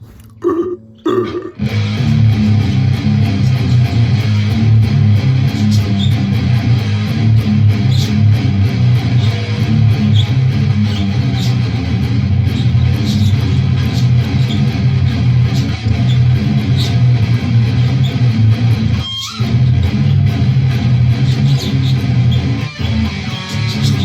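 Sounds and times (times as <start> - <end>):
heavy electric guitar riff: 0.0 - 24.0.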